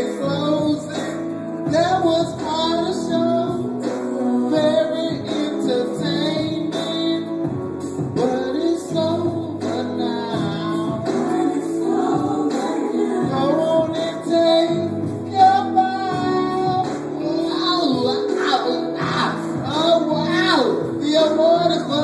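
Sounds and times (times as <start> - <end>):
music: 0.0 - 22.0
person singing into microphone: 0.0 - 22.0.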